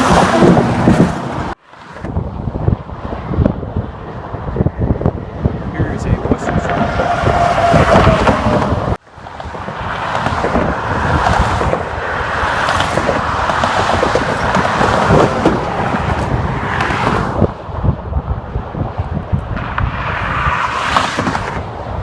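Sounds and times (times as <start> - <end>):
road traffic passing: 0.0 - 22.0
wind buffeting microphone: 0.0 - 22.0.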